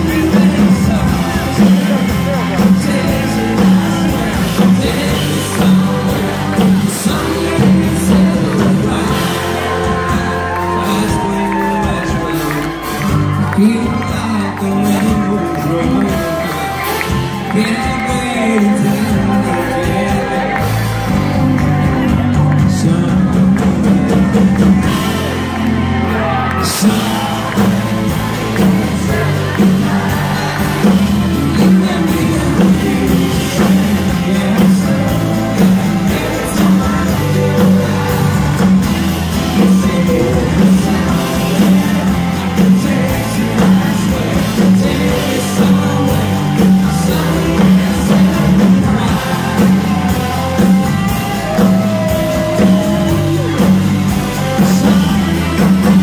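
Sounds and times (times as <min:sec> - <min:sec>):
live country band playing: 0:00.0 - 0:56.0
man singing: 0:00.0 - 0:56.0.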